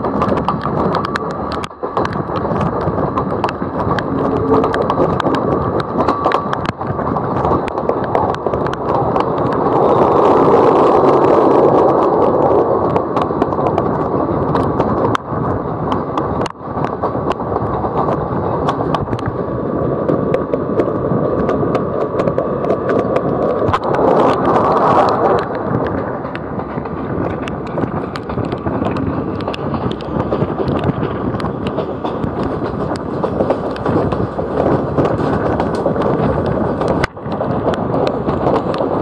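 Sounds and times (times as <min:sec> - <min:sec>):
train wheels rumbling on track: 0:00.0 - 0:39.0
wheels clicking and knocking: 0:00.0 - 0:39.0
wind rushing past: 0:00.0 - 0:39.0.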